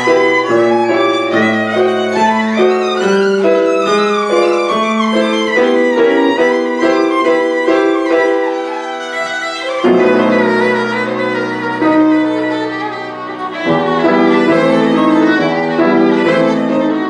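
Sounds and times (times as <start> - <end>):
piano chords: 0.0 - 17.0
violin playing long notes: 0.0 - 17.0.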